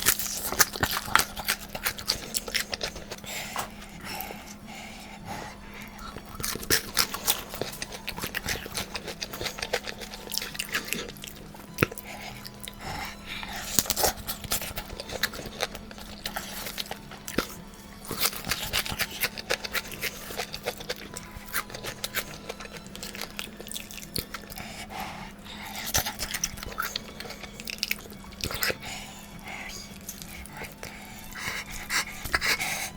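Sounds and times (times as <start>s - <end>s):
chewing and crunching food: 0.0s - 32.9s
steady low hum: 0.0s - 32.9s.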